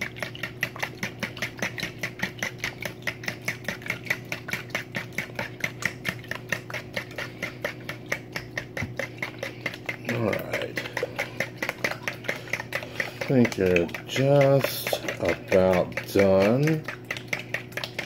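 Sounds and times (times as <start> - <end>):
fork beating eggs in bowl: 0.0 - 18.0.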